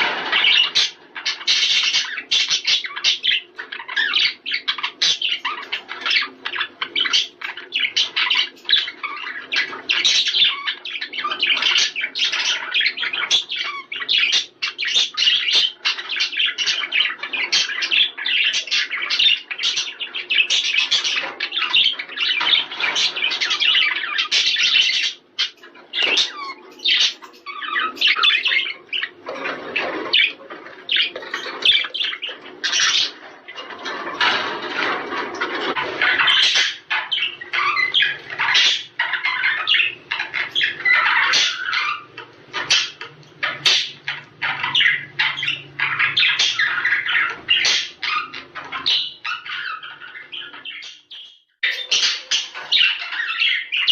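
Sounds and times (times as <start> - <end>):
budgerigars chattering: 0.0 - 53.9.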